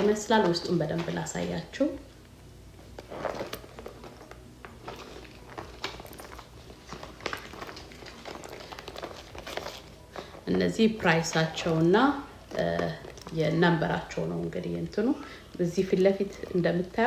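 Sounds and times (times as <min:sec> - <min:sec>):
leather bag rustling and crinkling: 0:00.0 - 0:01.8, 0:02.8 - 0:17.0.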